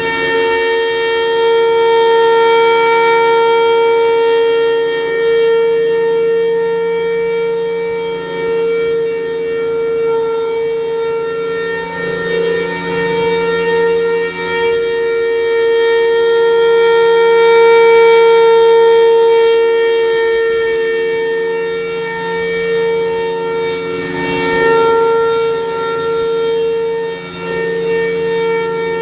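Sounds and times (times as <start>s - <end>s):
warning siren wailing: 0.0s - 29.0s.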